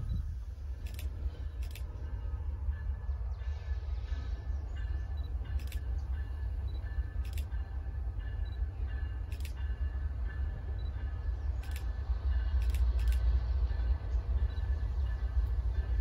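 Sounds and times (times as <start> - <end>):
distant train locomotive rumble: 0.0 - 16.0.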